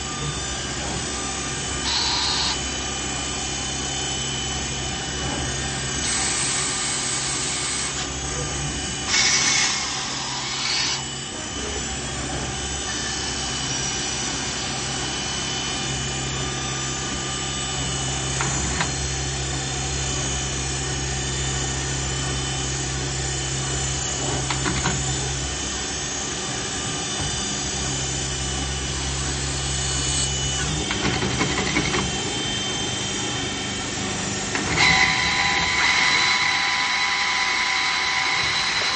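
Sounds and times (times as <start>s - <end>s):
lathe humming and whining: 0.0s - 38.9s.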